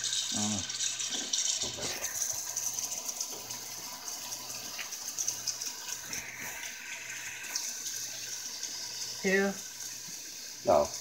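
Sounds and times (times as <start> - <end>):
faucet running into steel sink: 0.0 - 11.0.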